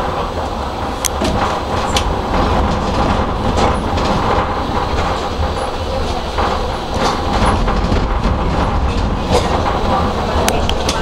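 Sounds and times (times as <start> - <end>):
tram wheels rumbling on rails: 0.0 - 11.0
wheels clicking over rail joints: 0.0 - 11.0.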